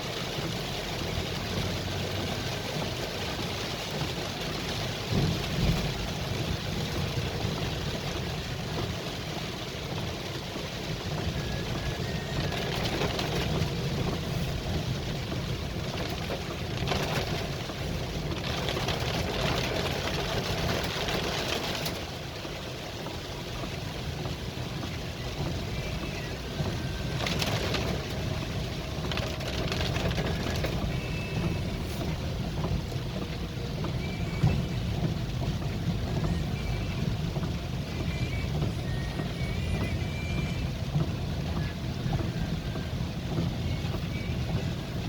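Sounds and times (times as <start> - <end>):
heavy rain: 0.0 - 45.0
road noise: 0.0 - 45.0
vehicle engine hum: 0.0 - 45.0.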